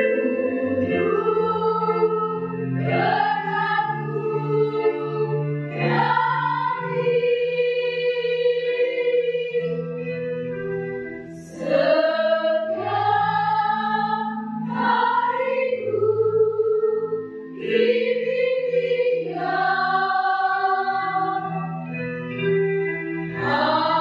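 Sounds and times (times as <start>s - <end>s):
women's choir singing: 0.0s - 10.0s, 11.4s - 21.8s, 23.3s - 24.0s.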